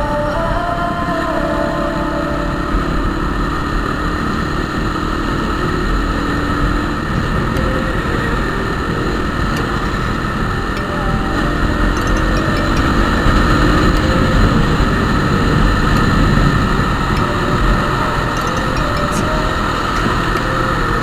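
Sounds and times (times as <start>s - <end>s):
wind and road noise: 0.0s - 21.0s
motorcycle engine running: 0.8s - 21.0s.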